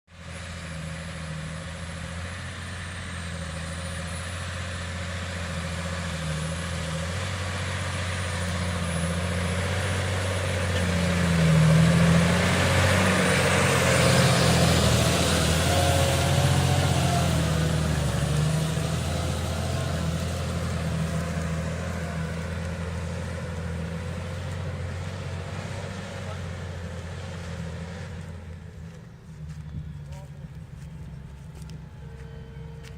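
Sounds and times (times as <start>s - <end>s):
tractor diesel engine under load: 0.1s - 32.9s.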